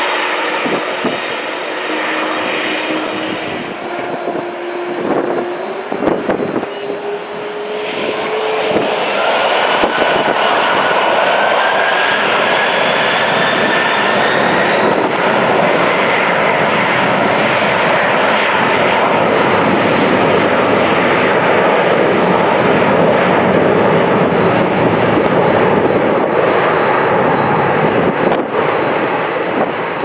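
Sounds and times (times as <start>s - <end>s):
jet engine roar: 0.0s - 30.0s
jet engine whine rising: 0.0s - 30.0s.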